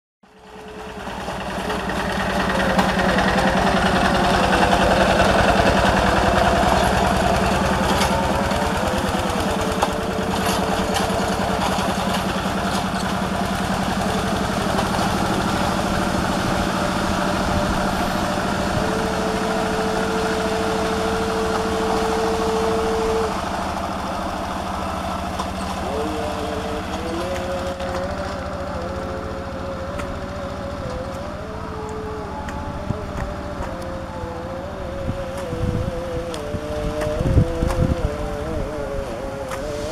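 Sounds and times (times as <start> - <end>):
diesel engine chugging: 0.2 - 39.9.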